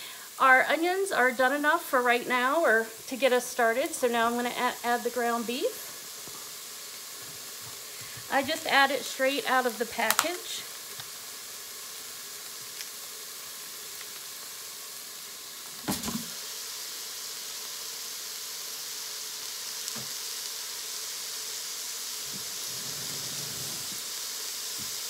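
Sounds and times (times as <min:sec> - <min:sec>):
onions sizzling: 0:00.0 - 0:25.0.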